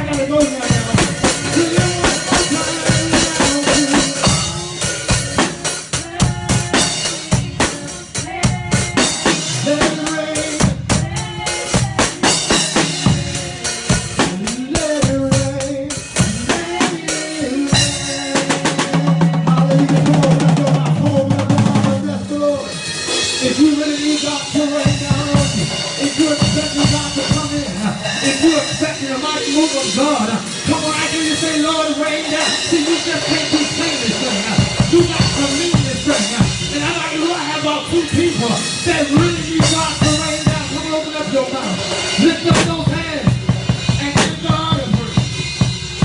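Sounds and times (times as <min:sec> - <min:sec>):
drum kit beat: 0:00.0 - 0:46.0
keyboard or bass notes: 0:00.0 - 0:46.0
live band music: 0:00.0 - 0:46.0.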